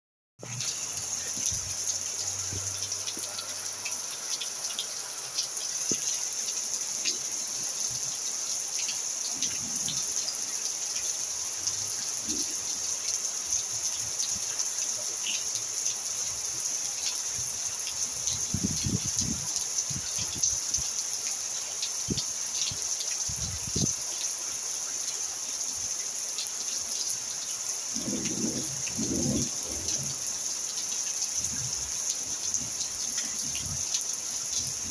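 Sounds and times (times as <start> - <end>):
rain on a roof: 0.4 - 34.9.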